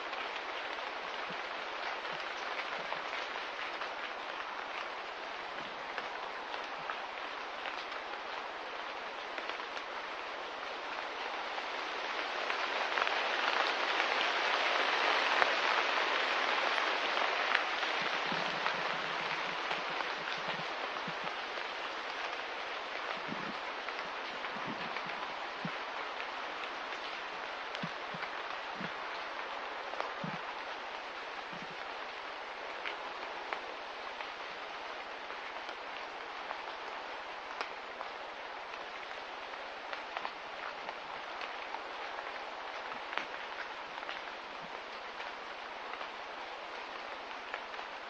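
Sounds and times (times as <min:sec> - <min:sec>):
rain patter: 0:00.0 - 0:48.0.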